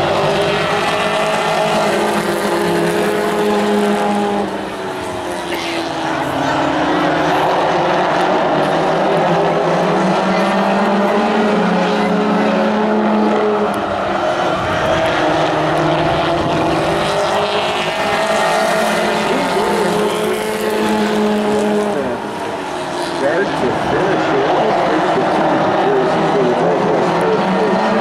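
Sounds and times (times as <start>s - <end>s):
race truck engines droning: 0.0s - 28.0s.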